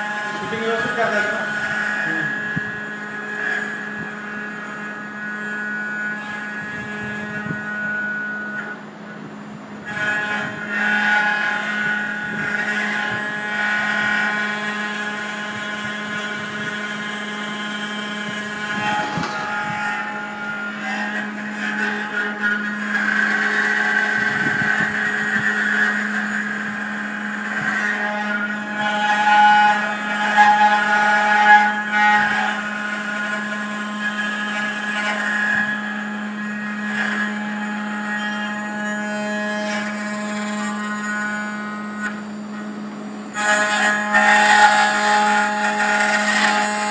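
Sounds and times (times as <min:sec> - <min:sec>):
engraving machine spindle humming: 0:00.0 - 0:46.9.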